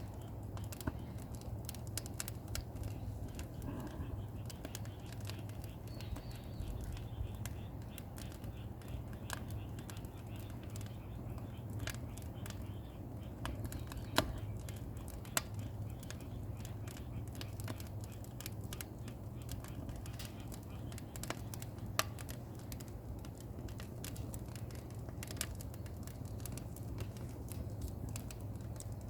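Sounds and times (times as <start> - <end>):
fire crackling and popping: 0.0 - 29.0
steady low hum: 0.0 - 29.0.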